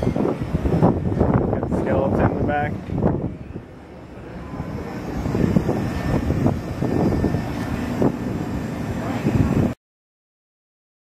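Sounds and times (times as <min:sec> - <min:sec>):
low engine rumble: 0:00.0 - 0:09.8.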